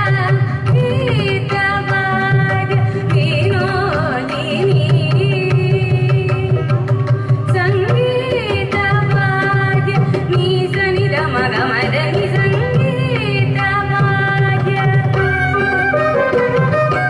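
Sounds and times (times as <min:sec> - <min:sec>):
woman singing: 0:00.0 - 0:15.8.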